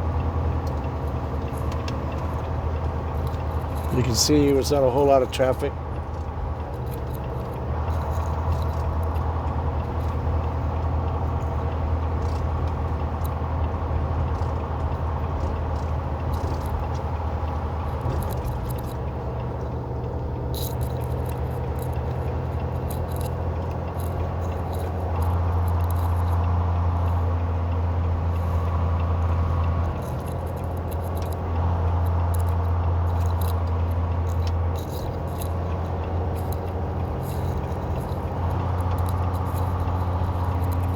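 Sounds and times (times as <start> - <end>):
small rattles in cab: 0.0 - 40.9
truck diesel engine drone: 0.0 - 40.9.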